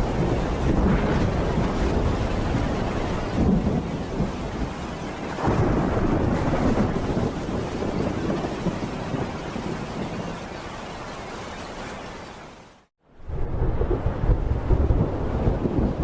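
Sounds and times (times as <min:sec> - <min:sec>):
rolling thunder: 0:00.0 - 0:10.4, 0:13.2 - 0:16.0
steady rain: 0:00.0 - 0:16.0.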